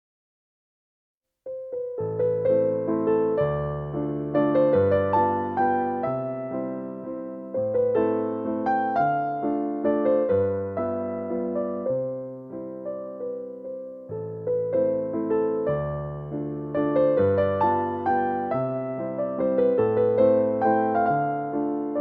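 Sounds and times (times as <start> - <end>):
gentle solo piano music: 1.5 - 22.0.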